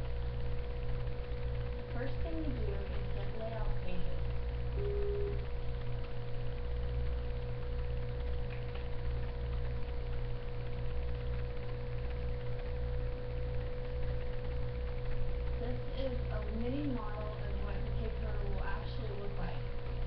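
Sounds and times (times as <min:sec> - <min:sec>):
electrical hum with steady tone: 0:00.0 - 0:20.0
low drone: 0:00.0 - 0:20.0.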